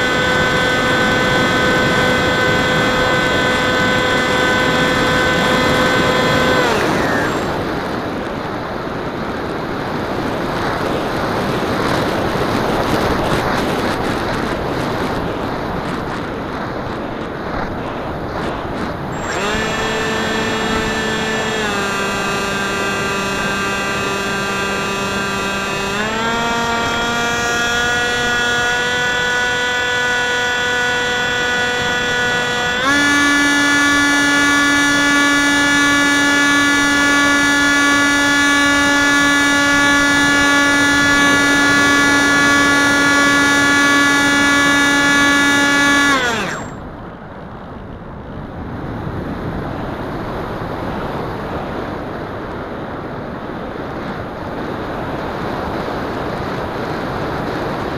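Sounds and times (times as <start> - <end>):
electric motor and propeller whining: 0.0 - 47.0.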